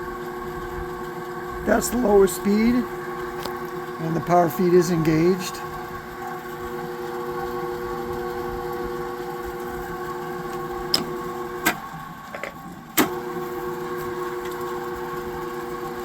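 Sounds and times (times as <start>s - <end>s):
drill press motor humming: 0.0s - 16.0s.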